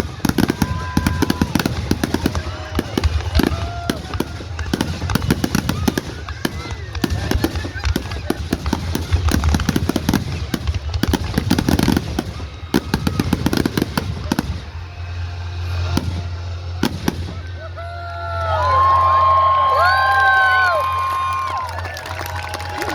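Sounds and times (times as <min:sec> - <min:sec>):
fireworks bangs and crackles: 0:00.0 - 0:22.9
people whooping and cheering: 0:00.0 - 0:22.9.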